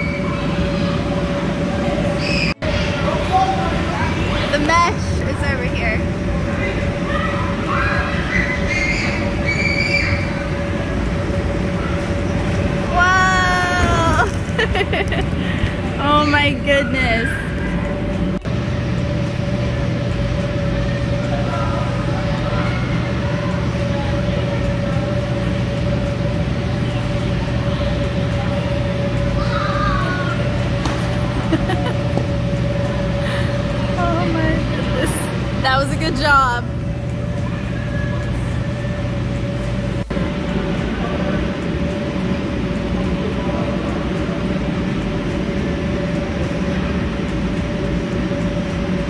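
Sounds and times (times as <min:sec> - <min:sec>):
machine drone: 0:00.0 - 0:49.0
mid-pitched hum: 0:00.0 - 0:49.0.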